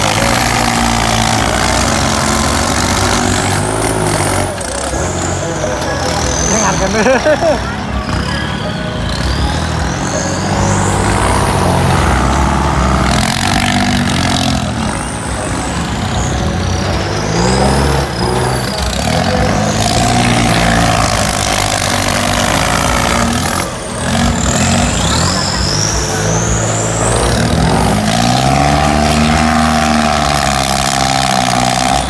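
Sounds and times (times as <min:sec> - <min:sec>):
tractor diesel engines under load: 0:00.0 - 0:32.0.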